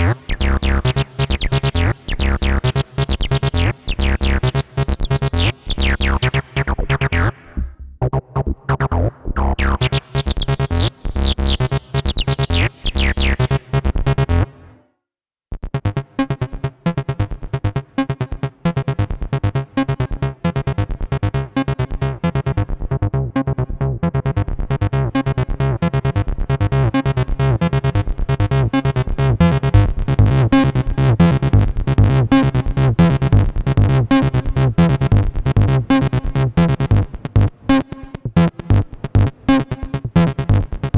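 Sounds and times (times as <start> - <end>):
squelchy acid synth bassline: 0.0 - 14.6, 17.1 - 40.9.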